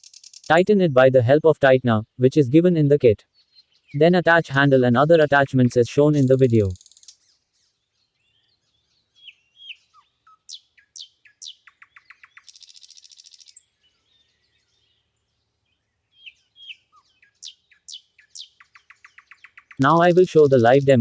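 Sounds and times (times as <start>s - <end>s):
birds chirping and trilling: 0.0s - 21.0s.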